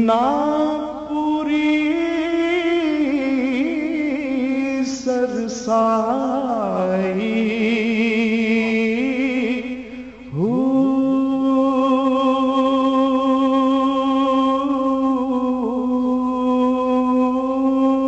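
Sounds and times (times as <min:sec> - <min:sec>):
man singing long wavering notes: 0:00.0 - 0:18.0.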